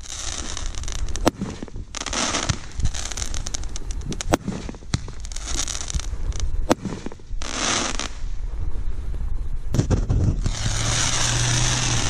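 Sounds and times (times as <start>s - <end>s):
fireworks hissing bursts: 0.0s - 8.3s, 9.8s - 12.0s
fireworks bangs and crackles: 0.0s - 8.4s, 9.7s - 12.0s.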